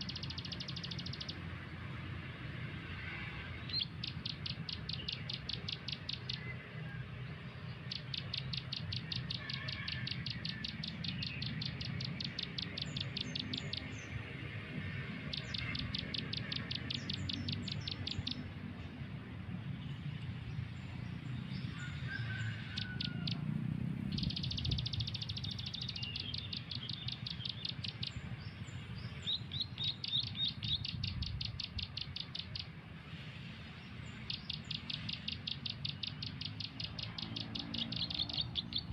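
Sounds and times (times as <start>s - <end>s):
small bird chirping: 0.0s - 1.5s, 3.6s - 6.5s, 7.7s - 14.3s, 14.9s - 18.6s, 20.5s - 32.8s, 34.0s - 38.9s.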